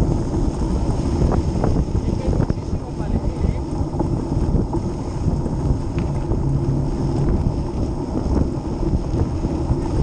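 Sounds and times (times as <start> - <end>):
bike rattles: 0.0 - 10.0
bike tyres rolling on dirt: 0.0 - 10.0
wind buffeting microphone: 0.0 - 10.0.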